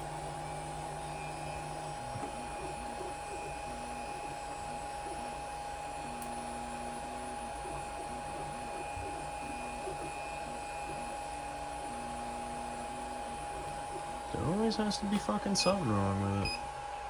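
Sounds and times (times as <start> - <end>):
cooling fan whine: 0.0 - 17.0.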